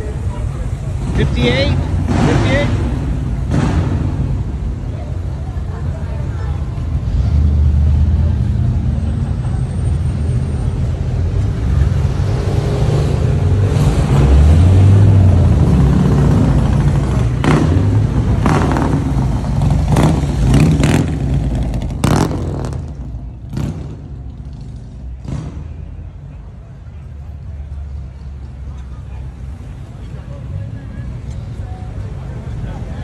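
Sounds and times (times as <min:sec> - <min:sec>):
vehicle engine rumbling and revving: 0:00.0 - 0:33.0.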